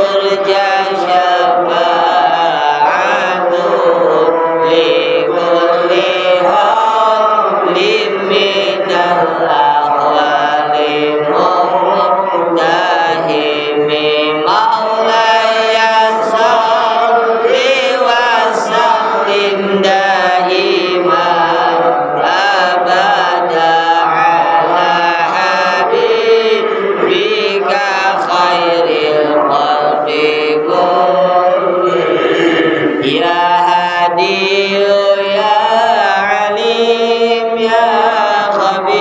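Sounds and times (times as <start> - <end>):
melodic chanting voices: 0.0 - 39.0.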